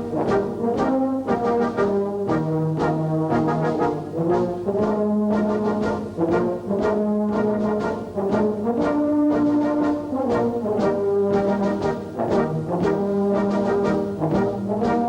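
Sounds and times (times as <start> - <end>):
brass instruments playing chords: 0.0 - 15.0.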